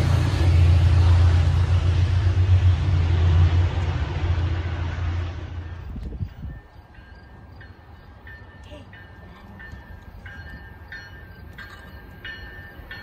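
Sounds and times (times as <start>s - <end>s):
passing train drone: 0.0s - 13.0s.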